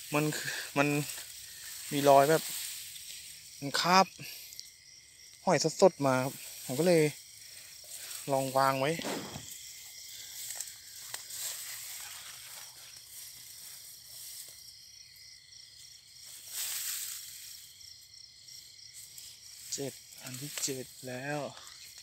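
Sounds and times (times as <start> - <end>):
insects chirring: 0.0 - 22.0
rustle: 0.0 - 22.0.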